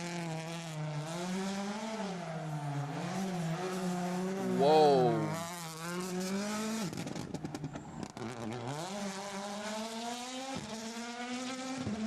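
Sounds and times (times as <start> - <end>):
rally car engine racing: 0.0 - 12.0.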